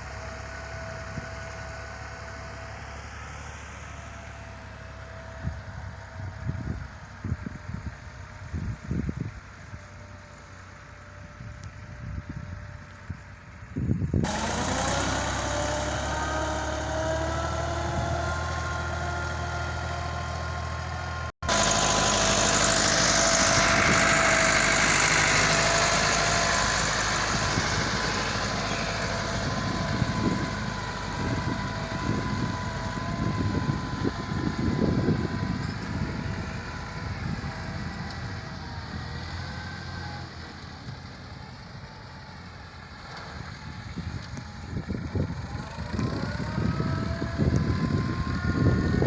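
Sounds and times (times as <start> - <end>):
heavy machinery diesel engine: 0.0 - 49.0.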